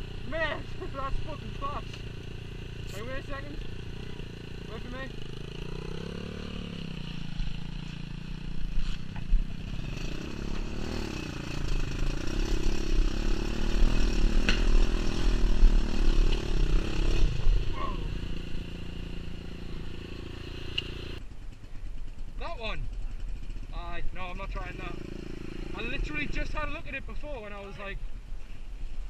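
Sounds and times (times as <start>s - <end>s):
pit bike engine revving: 0.0s - 21.2s, 22.4s - 26.9s.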